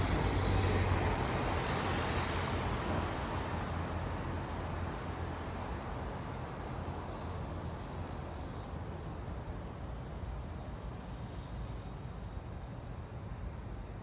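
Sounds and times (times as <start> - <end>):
low road noise rumble: 0.0 - 14.0.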